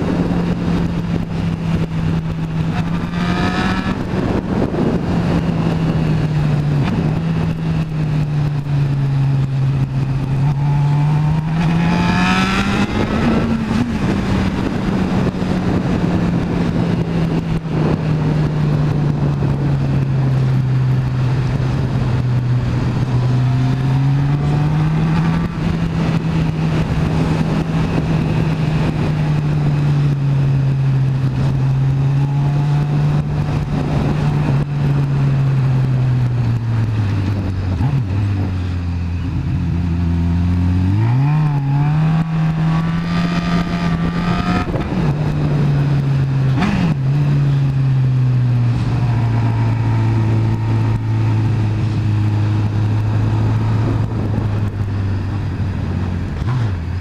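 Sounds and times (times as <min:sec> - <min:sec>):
motorcycle engine revving: 0:00.0 - 0:57.0
wind rushing: 0:00.0 - 0:57.0.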